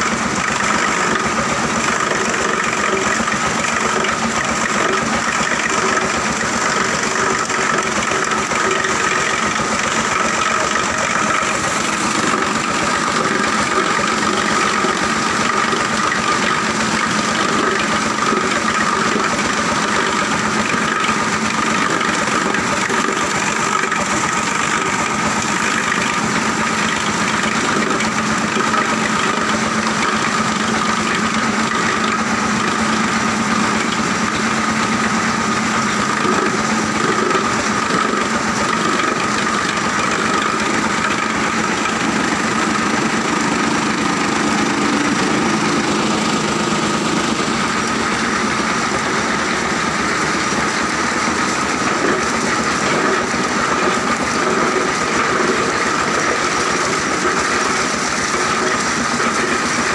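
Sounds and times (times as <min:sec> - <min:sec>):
machinery drone with whine: 0:00.0 - 0:59.9.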